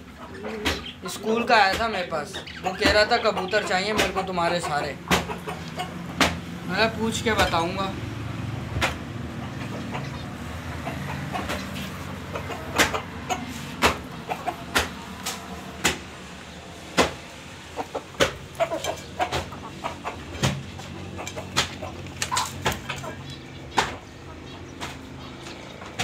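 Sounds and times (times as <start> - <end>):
pigeons calling: 0.0 - 26.0
knocks and clatters in coop: 0.4 - 6.5, 8.6 - 16.1, 16.9 - 26.0.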